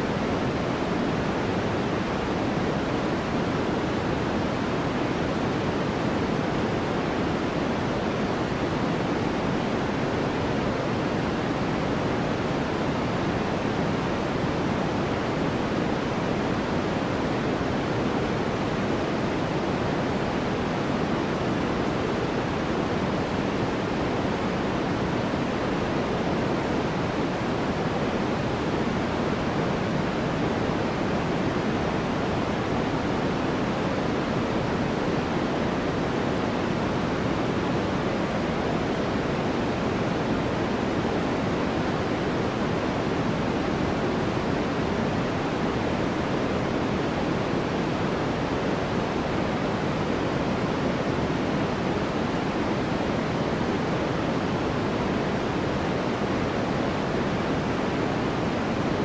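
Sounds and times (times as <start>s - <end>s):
steady synthetic noise hiss: 0.0s - 59.0s.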